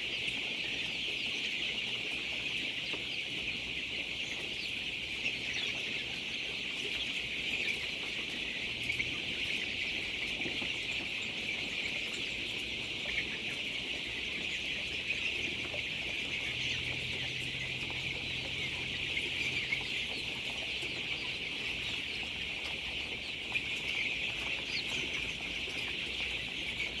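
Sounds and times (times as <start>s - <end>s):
poultry clucking and peeping: 0.0s - 27.0s.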